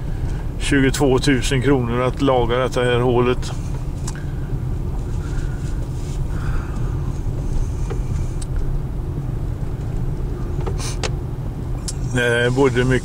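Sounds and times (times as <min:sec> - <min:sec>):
car driving on gravel: 0:00.0 - 0:13.0.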